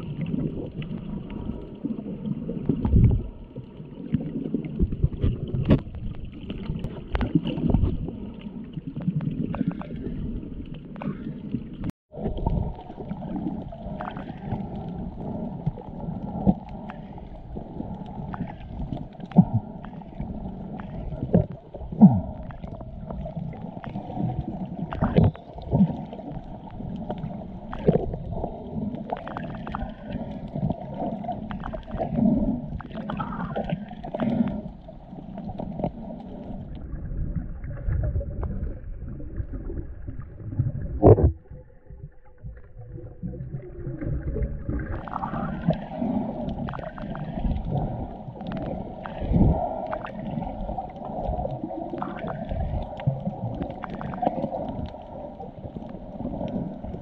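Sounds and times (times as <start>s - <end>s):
underwater water sloshing: 0.0s - 57.0s.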